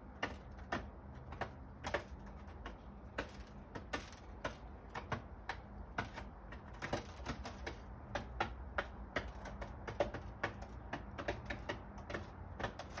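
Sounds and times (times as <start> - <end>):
beaks tapping on hard ledge: 0.0 - 13.0.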